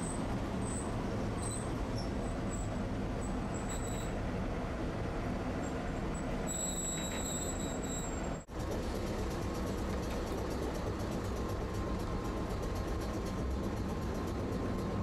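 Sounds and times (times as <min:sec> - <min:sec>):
streetcar rail rumble: 0:00.0 - 0:15.0.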